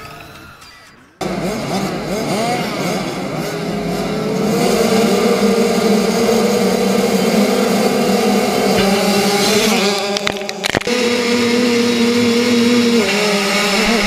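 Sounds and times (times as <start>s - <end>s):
two-stroke motocross bikes revving: 1.2s - 14.0s.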